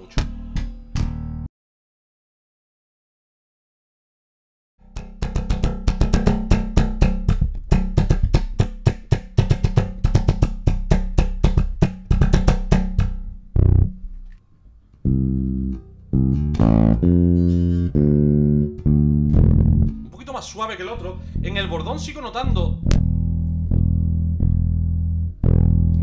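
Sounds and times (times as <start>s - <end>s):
electric bass plucked: 0.0s - 1.5s, 4.8s - 14.4s, 15.0s - 26.0s
bass strings buzzing on frets: 0.2s - 1.5s, 4.8s - 14.4s, 15.0s - 26.0s.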